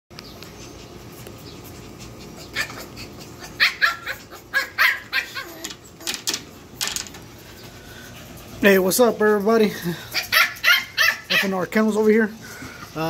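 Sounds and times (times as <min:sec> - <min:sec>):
puppies yipping and whining: 0:00.2 - 0:13.0.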